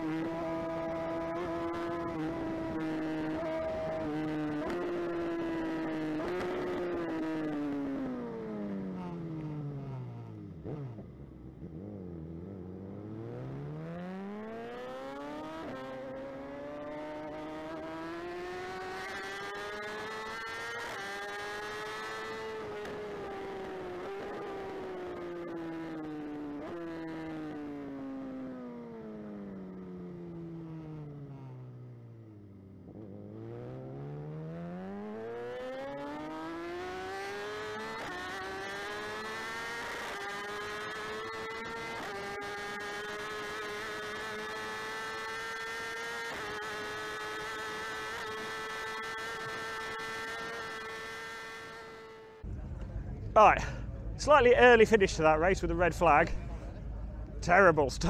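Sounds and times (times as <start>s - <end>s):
motorcycle engine revving: 0.0s - 56.8s.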